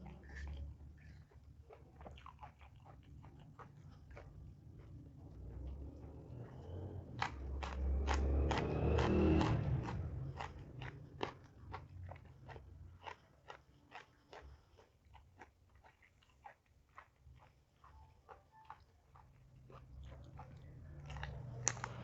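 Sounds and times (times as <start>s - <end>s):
chewing crunchy food: 0.0s - 22.0s.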